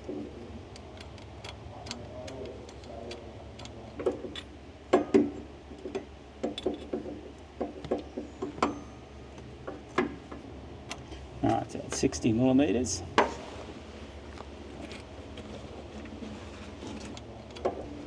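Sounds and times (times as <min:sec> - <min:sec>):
hand tools clicking and tapping: 0:00.0 - 0:11.2, 0:14.4 - 0:18.0.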